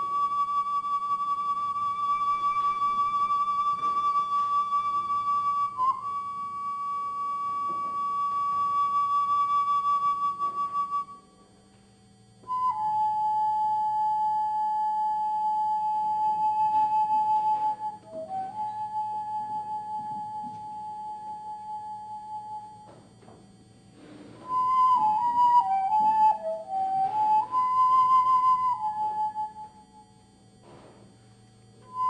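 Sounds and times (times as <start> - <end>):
slow solo flute music: 0.0 - 23.3, 24.1 - 30.9, 31.8 - 32.0.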